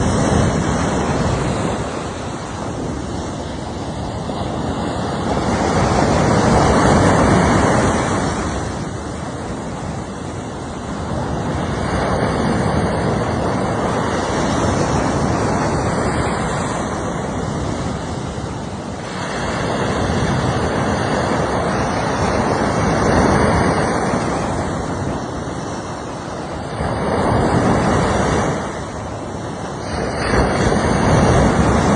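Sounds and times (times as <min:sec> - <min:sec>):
surf breaking on a shore: 0:00.0 - 0:31.9.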